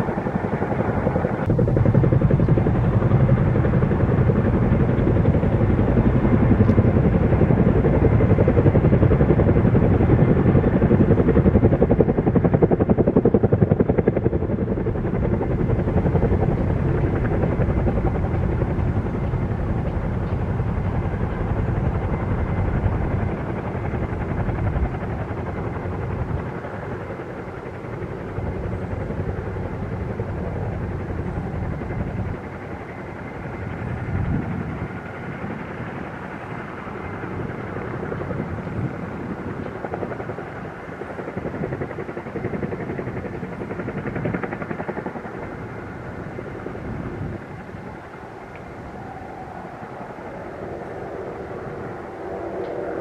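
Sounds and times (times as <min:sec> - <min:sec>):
distant jet engine rumble: 0:00.0 - 0:53.0.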